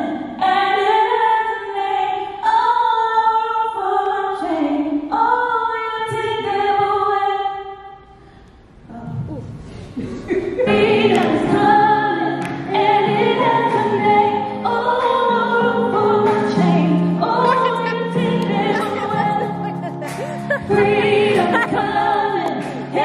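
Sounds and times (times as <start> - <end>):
women singing gospel song: 0.0 - 7.8, 10.5 - 23.0.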